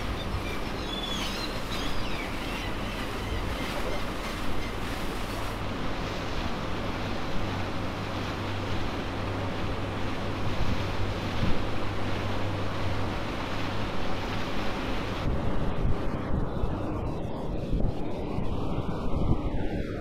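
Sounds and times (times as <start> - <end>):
ferry engine hum: 0.0 - 20.0
wind and water noise: 0.0 - 20.0
wind buffeting microphone: 0.0 - 20.0.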